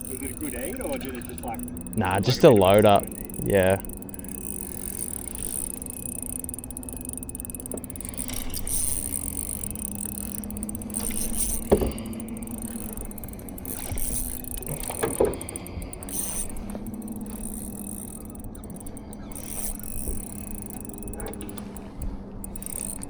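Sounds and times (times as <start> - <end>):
electric boat motor humming: 0.0 - 23.0.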